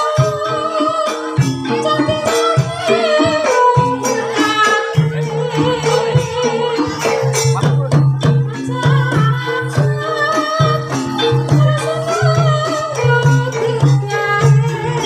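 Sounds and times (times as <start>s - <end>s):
drum strokes: 0.0s - 15.0s
wavering melodic line: 0.0s - 15.0s.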